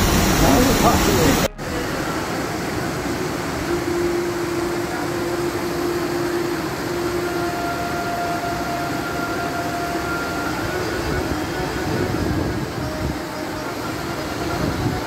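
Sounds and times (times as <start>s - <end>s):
faint long held notes: 0.0s - 15.0s
waterfall rushing onto rocks: 0.0s - 15.0s.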